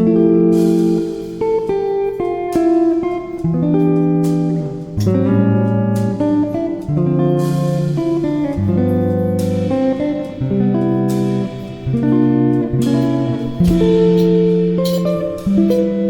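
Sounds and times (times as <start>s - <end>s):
guitar background music: 0.0s - 16.0s.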